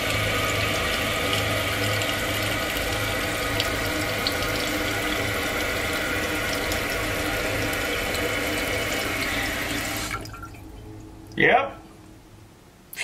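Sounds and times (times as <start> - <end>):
toilet tank filling with water: 0.0 - 11.4.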